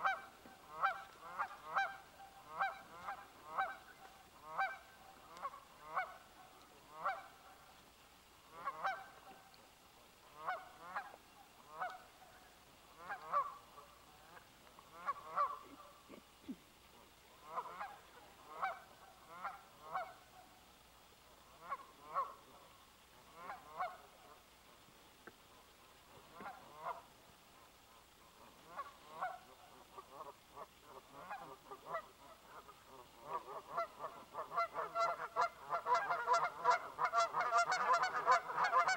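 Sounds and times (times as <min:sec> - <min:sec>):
geese honking: 0:00.0 - 0:07.8, 0:08.5 - 0:09.6, 0:10.2 - 0:20.5, 0:21.5 - 0:24.5, 0:26.2 - 0:27.6, 0:28.4 - 0:38.9.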